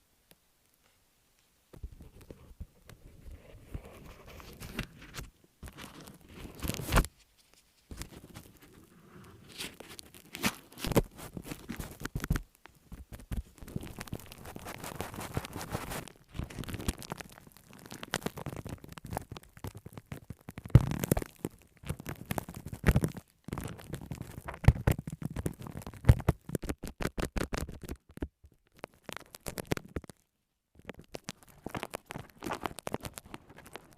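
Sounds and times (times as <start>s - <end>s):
scraping and crinkling: 1.7s - 33.9s.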